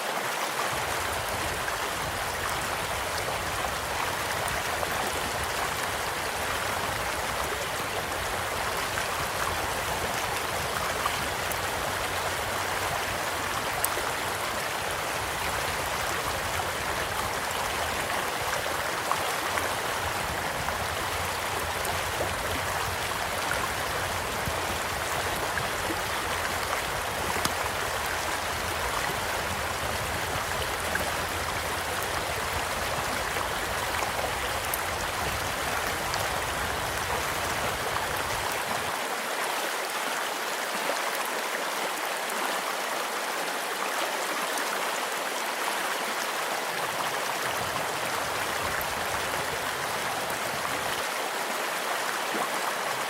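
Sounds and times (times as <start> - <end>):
small stream flowing: 0.0 - 53.0.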